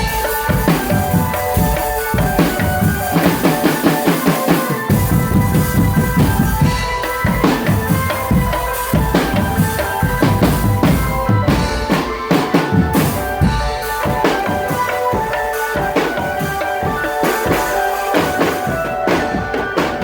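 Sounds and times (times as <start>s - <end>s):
marching drum band playing: 0.0s - 20.0s.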